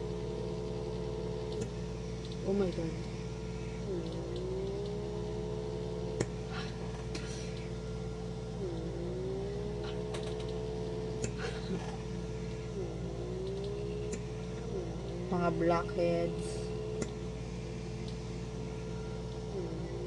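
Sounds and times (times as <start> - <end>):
small motor whine: 0.0 - 20.0.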